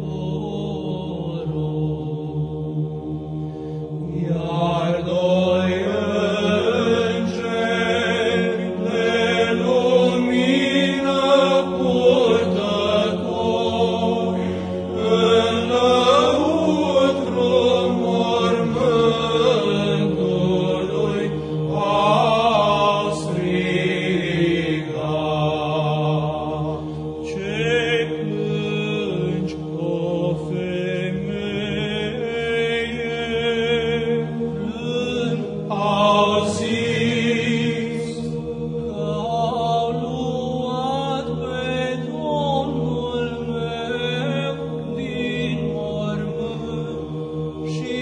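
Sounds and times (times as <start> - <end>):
voices chanting: 0.0 - 48.0.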